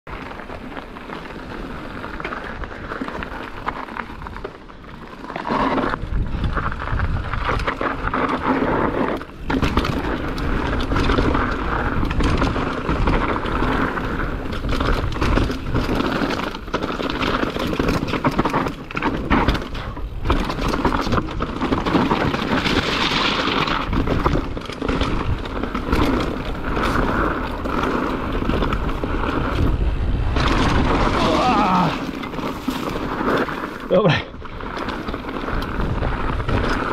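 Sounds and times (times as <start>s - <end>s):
bike clattering and rattling: 0.1s - 36.9s
bike tyres rolling over dirt: 0.1s - 36.9s.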